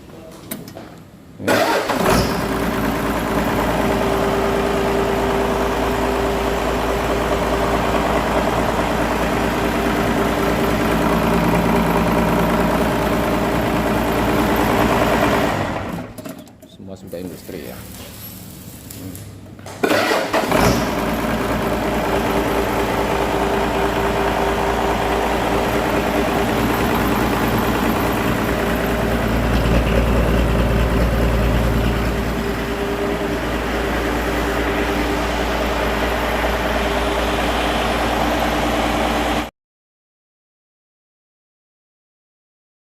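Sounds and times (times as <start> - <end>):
diesel engine starting and running: 0.5 - 39.5.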